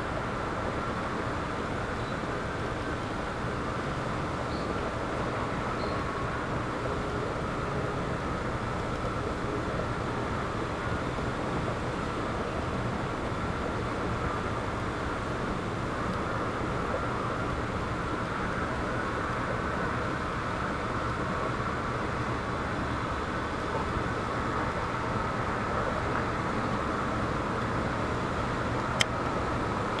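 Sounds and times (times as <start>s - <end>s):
wind noise with low rumble: 0.0s - 30.0s.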